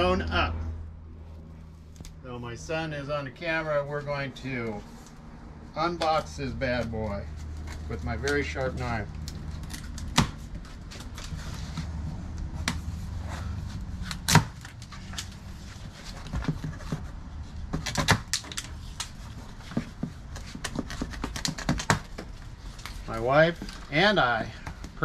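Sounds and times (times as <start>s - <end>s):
low steady hum: 0.0s - 21.1s.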